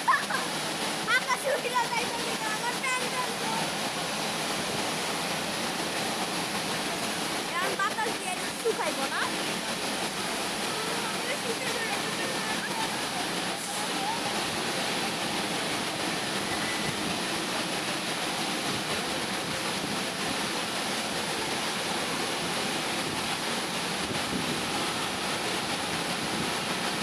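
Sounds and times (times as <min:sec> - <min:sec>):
car wash machinery hissing: 0:00.0 - 0:27.0.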